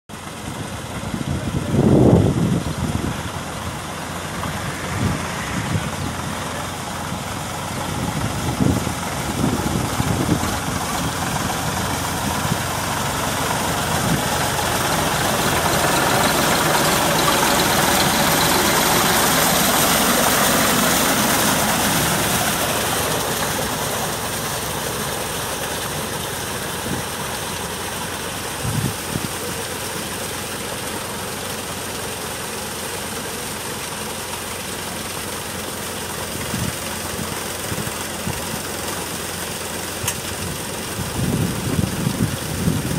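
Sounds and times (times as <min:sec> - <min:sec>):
rotavator churning mud and water: 0:00.1 - 0:42.9
tractor diesel engine running: 0:00.1 - 0:42.9.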